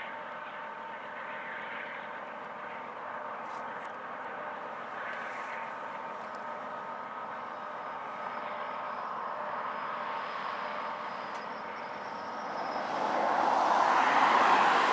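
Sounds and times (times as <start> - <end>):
broad rush of noise: 0.0 - 14.9
distant freight train drone: 0.0 - 14.9
faint steady tones: 0.0 - 14.9.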